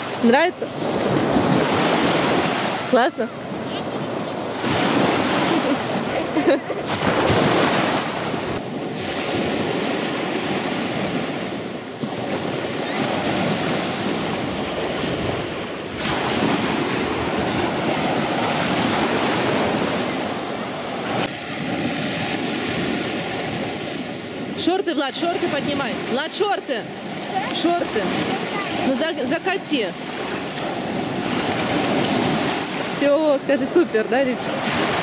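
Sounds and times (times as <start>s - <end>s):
waves washing up a sandy shore: 0.0s - 35.0s
wind buffeting microphone: 0.0s - 35.0s.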